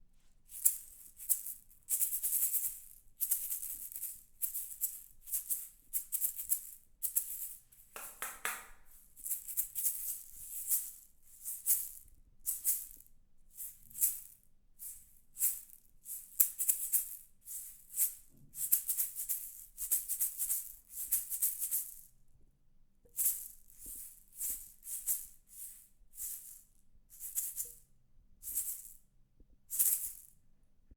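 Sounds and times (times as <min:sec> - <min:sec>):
hand rattle shaking: 0:00.5 - 0:22.1, 0:23.1 - 0:27.8, 0:28.4 - 0:29.0, 0:29.7 - 0:30.4.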